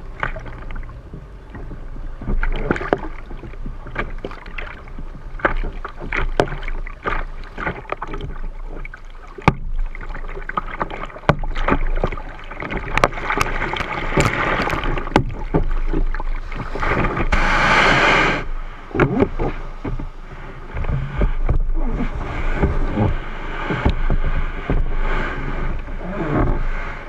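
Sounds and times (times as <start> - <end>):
paddle blades dipping: 0.0 - 27.0
water slapping kayak hull: 0.0 - 27.0.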